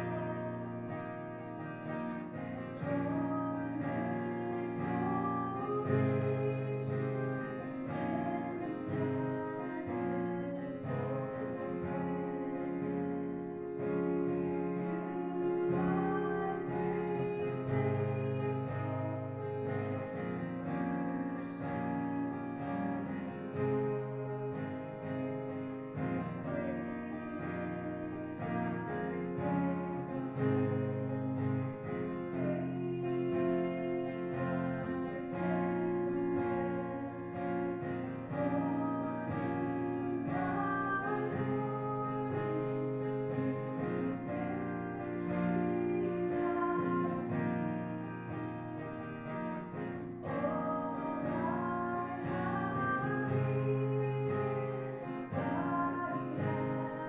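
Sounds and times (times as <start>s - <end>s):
strummed acoustic guitar music: 0.0s - 57.0s.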